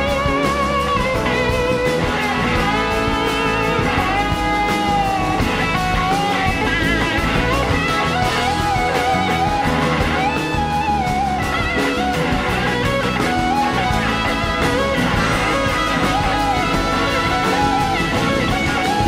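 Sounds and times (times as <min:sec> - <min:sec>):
bass guitar: 0:00.0 - 0:19.0
drums: 0:00.0 - 0:19.0
electric slide guitar solo: 0:00.0 - 0:19.0.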